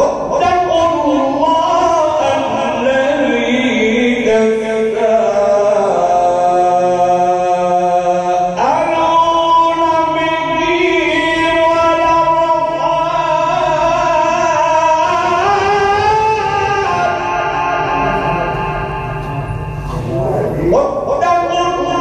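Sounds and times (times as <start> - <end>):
person reciting melodically: 0.0 - 22.0.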